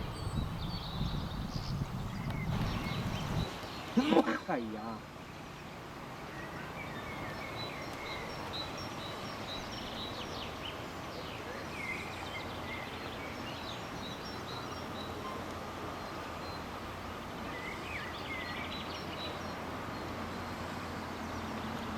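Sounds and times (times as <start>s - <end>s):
outdoor background noise: 0.0s - 21.9s
small birds chirping: 0.0s - 21.9s.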